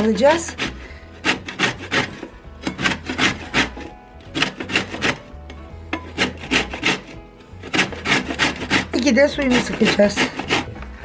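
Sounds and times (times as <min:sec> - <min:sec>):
peel rasping on a metal grater: 0:00.0 - 0:11.0.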